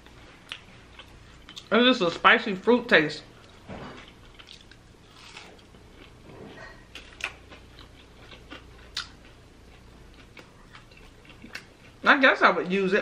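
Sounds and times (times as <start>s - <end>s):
chewing crunchy food: 0.0s - 2.2s, 3.4s - 12.6s.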